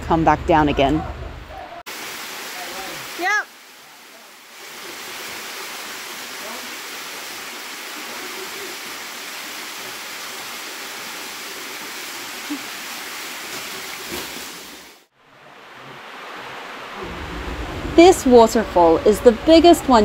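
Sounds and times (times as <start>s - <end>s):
waterfall rushing: 1.9s - 20.0s.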